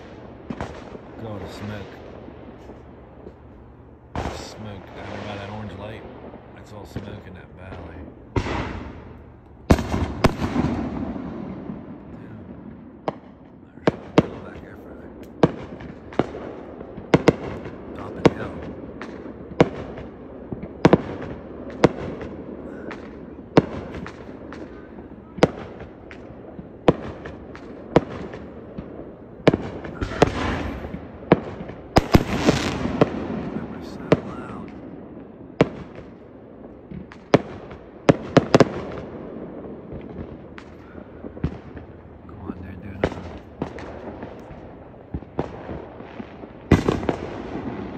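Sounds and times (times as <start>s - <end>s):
distant firework bursts: 0.0s - 47.9s
low background rumble: 0.0s - 47.9s
sharp firework bangs: 0.0s - 47.9s.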